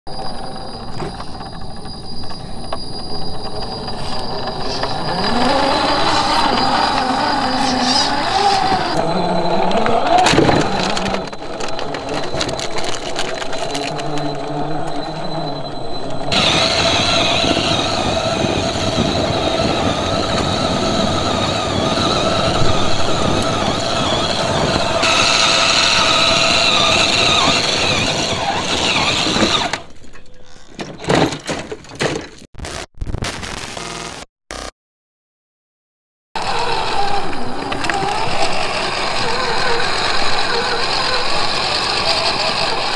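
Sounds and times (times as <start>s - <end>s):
tyres spinning on loose dirt: 0.1s - 30.0s, 36.4s - 42.9s
electric motor whine: 0.2s - 29.8s, 36.4s - 42.9s.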